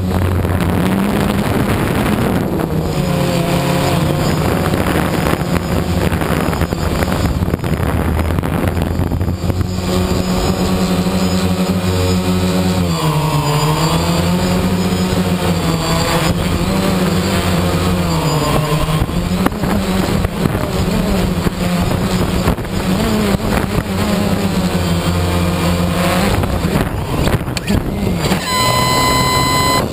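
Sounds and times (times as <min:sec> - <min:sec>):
drone propellers whirring: 0:00.0 - 0:29.9
wind noise on microphone: 0:00.0 - 0:29.9.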